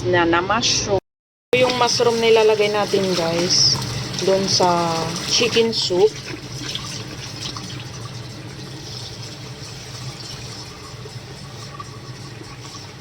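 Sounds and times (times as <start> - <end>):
water rushing: 1.6 - 13.0.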